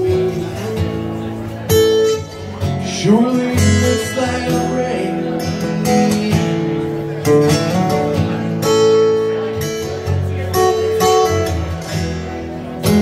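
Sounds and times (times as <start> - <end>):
acoustic guitars strumming: 0.0 - 13.0.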